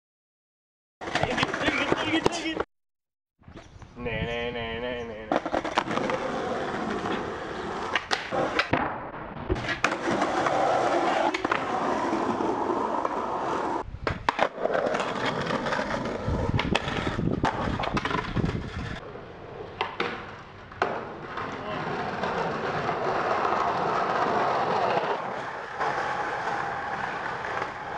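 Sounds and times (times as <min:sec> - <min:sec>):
skateboard wheels rumbling on concrete: 0:01.0 - 0:02.6, 0:05.2 - 0:27.9.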